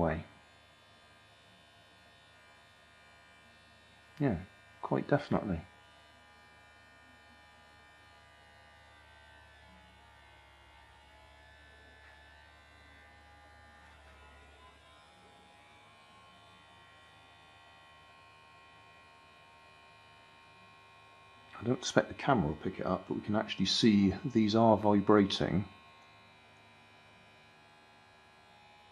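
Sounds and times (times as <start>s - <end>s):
electric toothbrush buzzing on foil: 0.0s - 28.9s.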